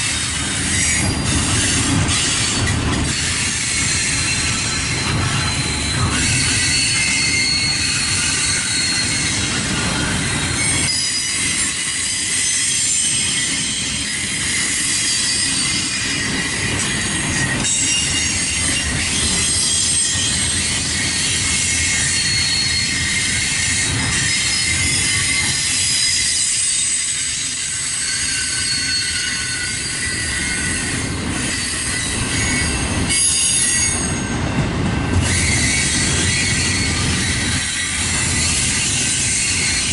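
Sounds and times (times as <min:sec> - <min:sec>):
steel wheels rumbling on rail: 0:00.0 - 0:39.9
high-pitched wheel squeal: 0:00.1 - 0:34.4, 0:35.2 - 0:39.9.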